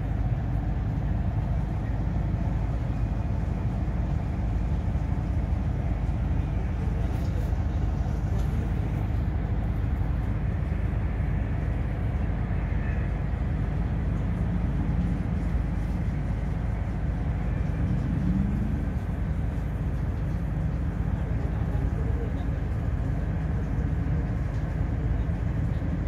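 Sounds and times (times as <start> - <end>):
ship engine rumbling: 0.0 - 26.0.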